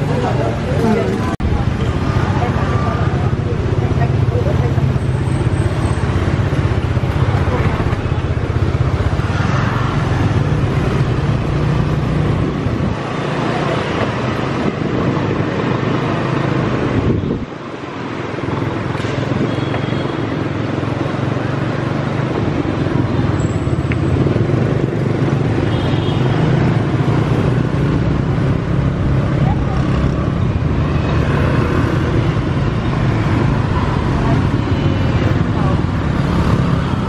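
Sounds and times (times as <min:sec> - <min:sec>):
street traffic noise: 0:00.0 - 0:37.0.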